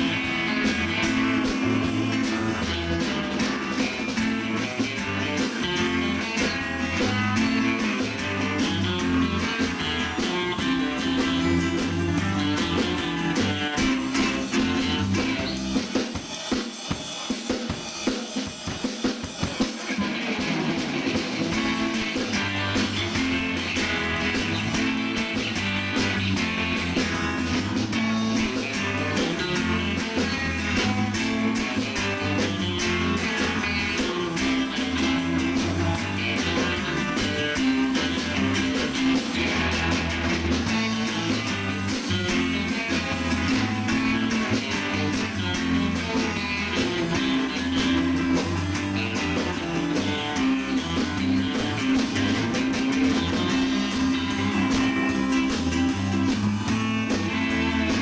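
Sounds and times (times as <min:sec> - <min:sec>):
lead electric guitar: 0:00.0 - 0:16.3, 0:18.4 - 0:58.0
bass guitar: 0:00.0 - 0:58.0
drum kit: 0:00.0 - 0:58.0.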